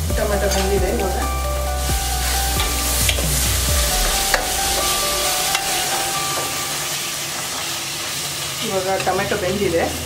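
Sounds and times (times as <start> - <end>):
onions and tomatoes sizzling in oil: 0.0 - 10.0.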